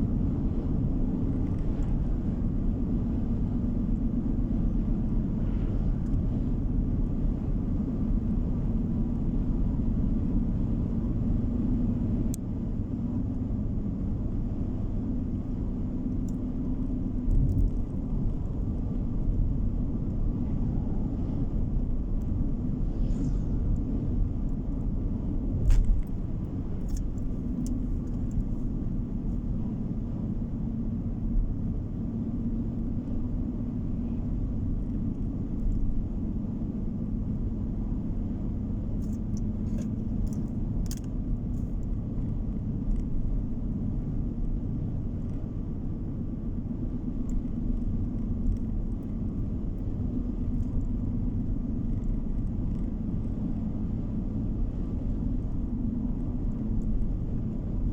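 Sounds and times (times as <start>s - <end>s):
car tyres and engine rumble: 0.0s - 57.9s.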